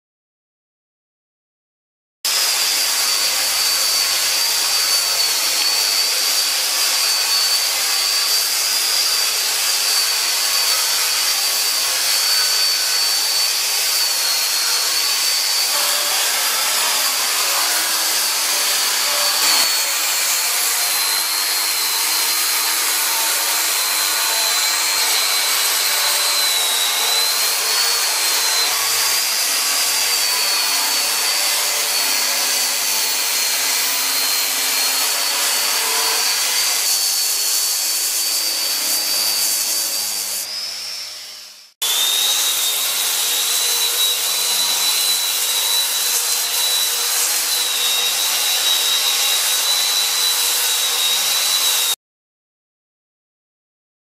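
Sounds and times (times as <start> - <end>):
belt grinder whining: 2.3 - 52.0.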